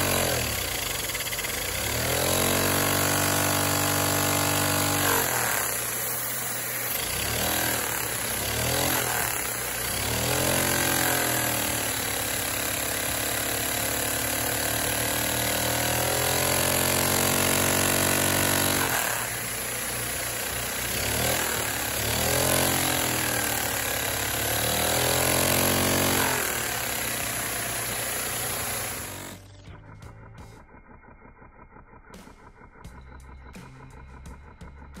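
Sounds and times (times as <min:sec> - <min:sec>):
small engine clattering rapidly: 0:00.0 - 0:35.0.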